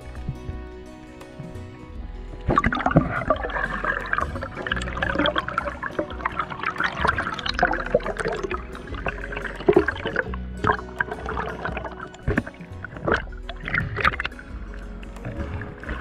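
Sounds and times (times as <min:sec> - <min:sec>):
underwater crackling and clicking: 0:00.0 - 0:16.0
underwater water rushing: 0:02.3 - 0:16.0.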